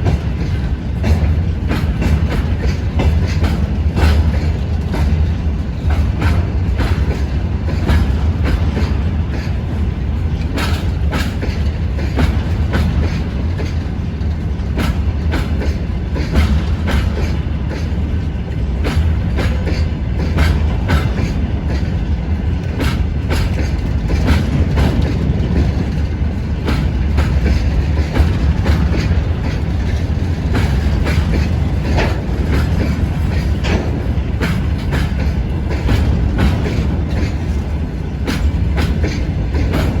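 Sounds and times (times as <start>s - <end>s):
freight train rumbling past: 0.0s - 40.0s
wheels clattering on rail joints: 0.0s - 40.0s.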